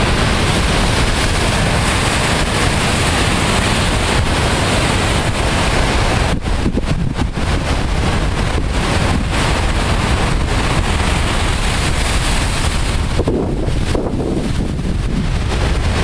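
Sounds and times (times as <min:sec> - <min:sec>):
surf breaking on rocky shore: 0:00.0 - 0:16.0
wind buffeting microphone: 0:00.0 - 0:16.0.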